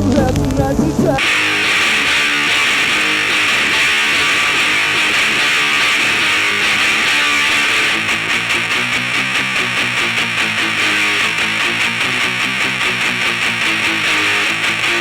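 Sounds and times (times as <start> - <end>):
distorted electric guitar strumming: 1.2 - 15.0.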